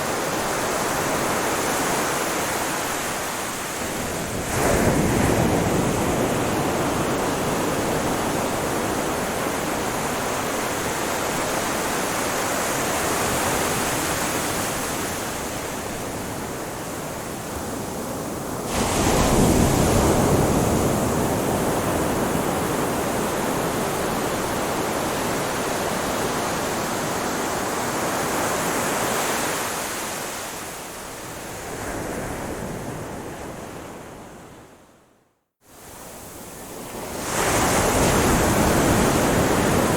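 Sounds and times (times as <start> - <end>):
ocean waves washing onto shore: 0.0 - 34.7, 35.7 - 39.9.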